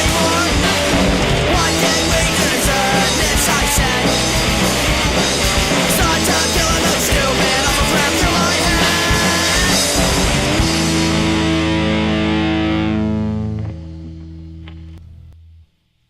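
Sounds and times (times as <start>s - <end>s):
drums: 0.0s - 14.9s
electric guitar: 0.0s - 15.7s
electric bass: 0.0s - 15.8s.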